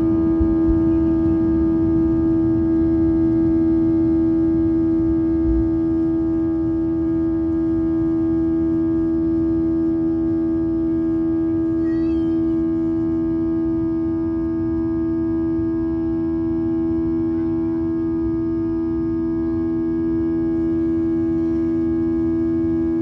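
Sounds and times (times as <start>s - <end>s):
jet engine drone in cabin: 0.0s - 23.0s.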